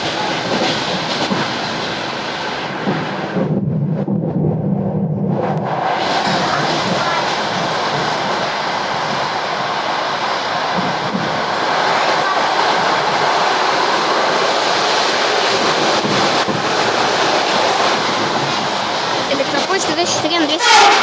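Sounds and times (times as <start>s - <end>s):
electric train wheels on rails: 0.0s - 21.0s.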